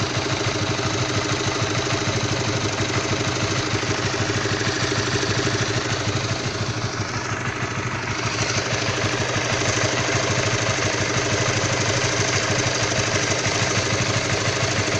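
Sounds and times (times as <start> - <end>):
motorcycle engine idling roughly: 0.0 - 14.9.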